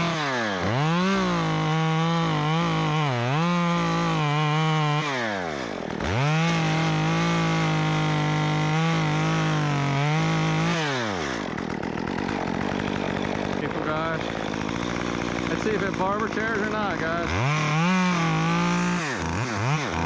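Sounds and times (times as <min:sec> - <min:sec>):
chainsaw cutting through branch: 0:00.0 - 0:20.0.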